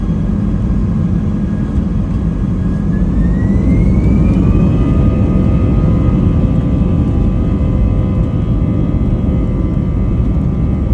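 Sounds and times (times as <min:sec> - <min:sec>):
jet engines spooling up: 0:00.4 - 0:10.9.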